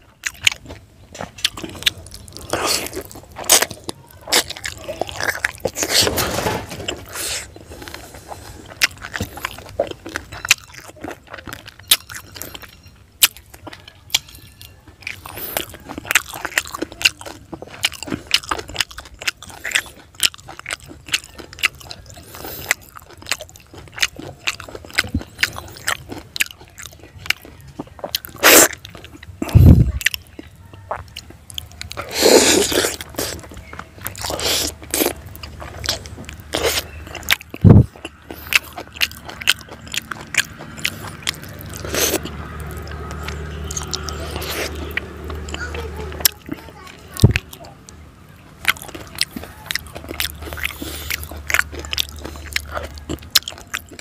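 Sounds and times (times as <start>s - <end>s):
chewing and crunching fried fish: 0.0s - 54.0s.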